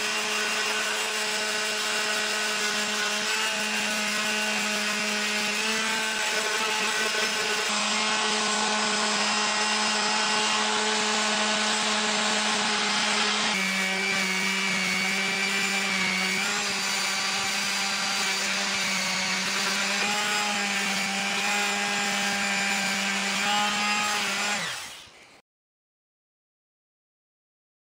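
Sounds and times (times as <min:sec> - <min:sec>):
electric sander buzzing: 0:00.0 - 0:25.2.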